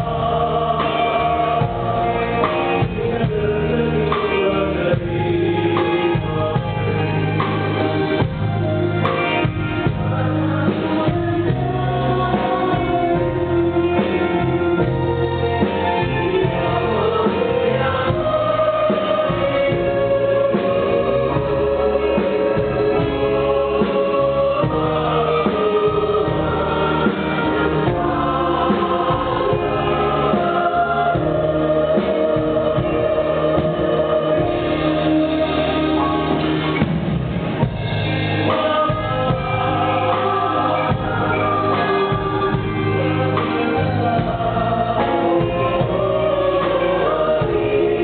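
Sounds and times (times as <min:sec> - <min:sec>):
live band accompaniment: 0:00.0 - 0:48.0
mixed-voice choir singing: 0:00.0 - 0:48.0.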